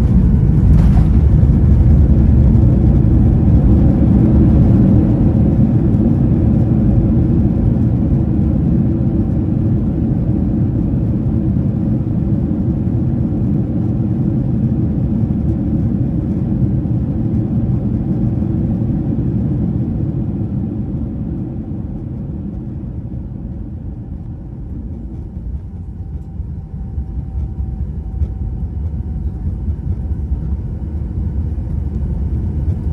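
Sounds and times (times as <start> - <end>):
airplane cabin rumble: 0.0 - 32.9.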